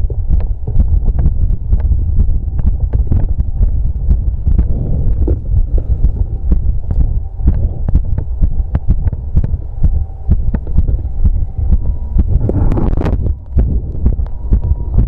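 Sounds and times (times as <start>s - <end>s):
fast heartbeat thumps: 0.0s - 15.0s.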